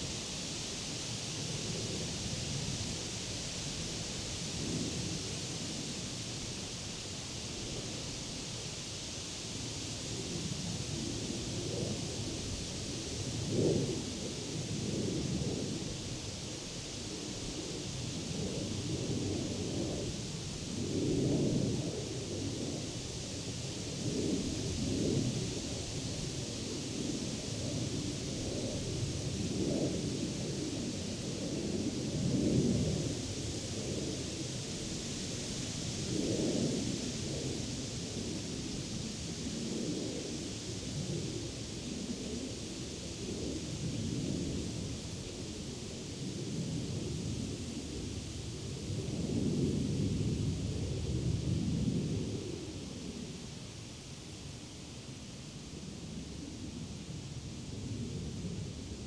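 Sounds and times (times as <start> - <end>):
wind rumbling in gusts: 10.1 - 59.0.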